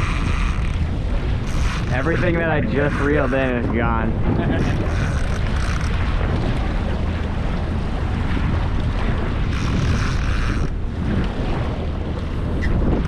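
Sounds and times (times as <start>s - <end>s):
water washing around boat: 0.0s - 13.0s
wind rumbling on microphone: 0.0s - 13.0s.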